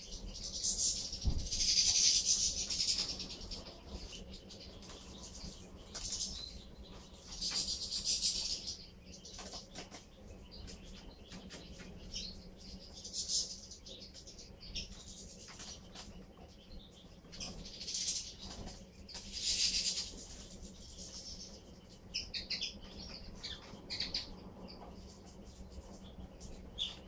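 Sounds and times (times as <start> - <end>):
birds twittering: 0.0 - 27.0.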